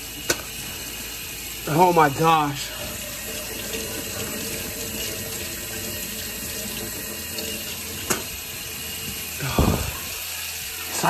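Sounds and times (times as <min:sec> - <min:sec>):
water running from a faucet: 0:00.0 - 0:11.0.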